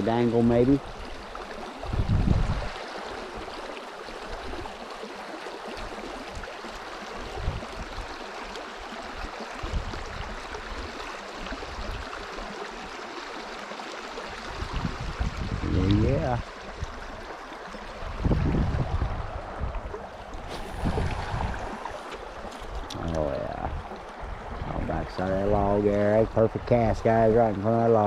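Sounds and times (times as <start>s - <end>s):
river water running: 0.0s - 28.0s.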